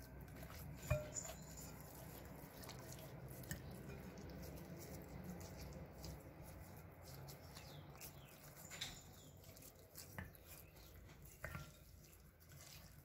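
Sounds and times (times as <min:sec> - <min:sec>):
hands rubbing paste into chicken: 0:00.0 - 0:13.0.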